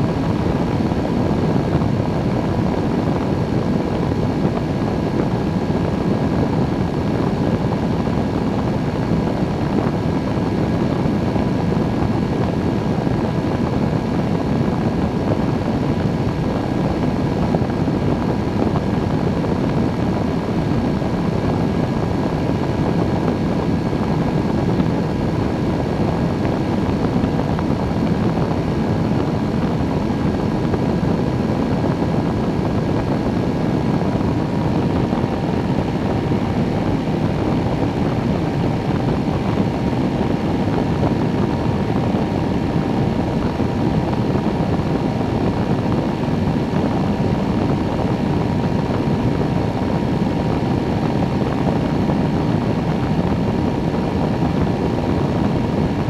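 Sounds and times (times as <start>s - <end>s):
engine and propeller drone: 0.0s - 56.0s.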